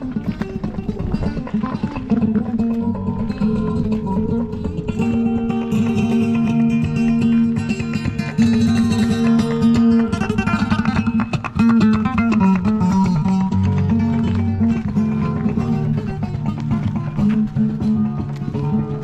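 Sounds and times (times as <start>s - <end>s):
flamenco acoustic guitar: 0.0s - 19.0s.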